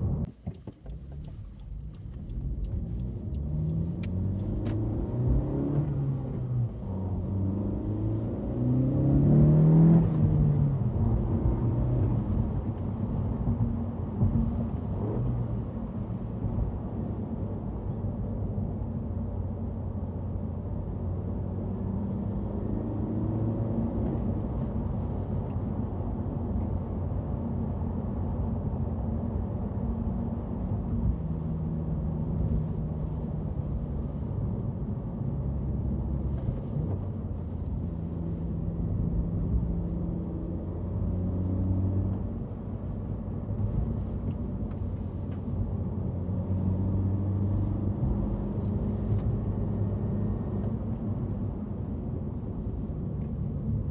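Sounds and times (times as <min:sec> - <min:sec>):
car engine under load: 0:00.0 - 0:53.9.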